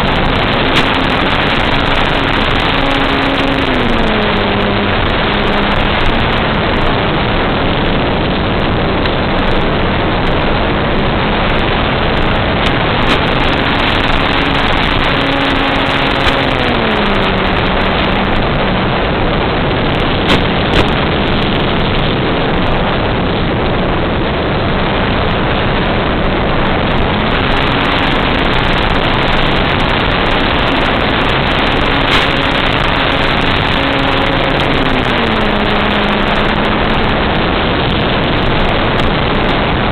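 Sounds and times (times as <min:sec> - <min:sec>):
model airplane motor hum: 0:00.0 - 0:22.8, 0:25.7 - 0:39.9.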